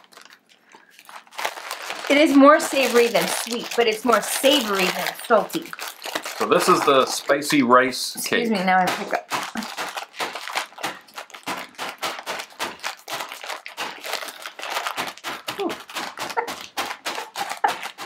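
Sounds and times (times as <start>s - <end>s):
dry noodles crackling: 0.0s - 18.0s
plastic package crinkling: 0.0s - 18.0s.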